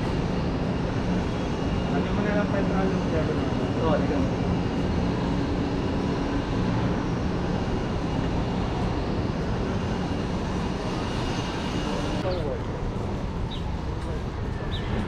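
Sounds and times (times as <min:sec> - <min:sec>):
city background rumble: 0:00.0 - 0:15.0.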